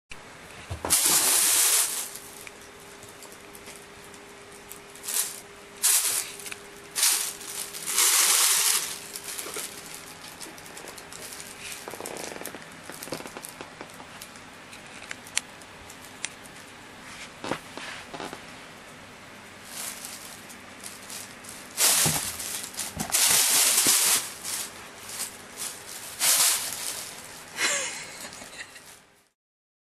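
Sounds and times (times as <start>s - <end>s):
plastic bag rustling: 0.6s - 15.1s, 19.6s - 29.2s.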